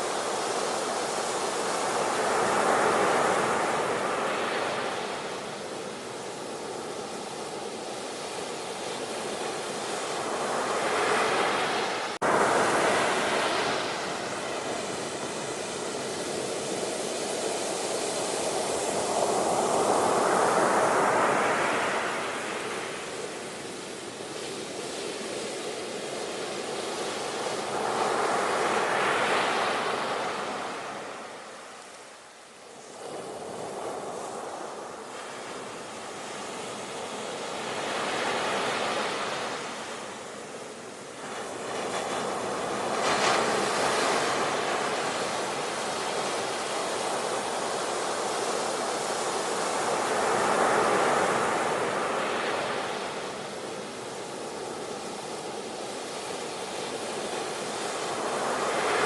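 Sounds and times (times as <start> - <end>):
waves washing onto shore: 0.0 - 59.0.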